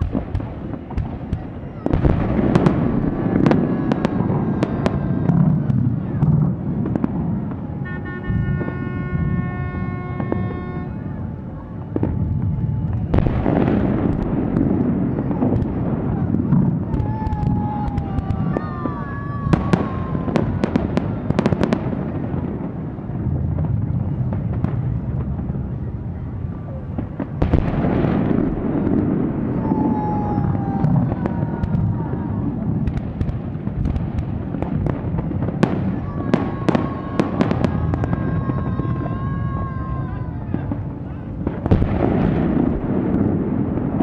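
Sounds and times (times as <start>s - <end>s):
fireworks bangs and crackles: 0.0s - 44.0s
low rumble of bursting shells: 0.0s - 44.0s.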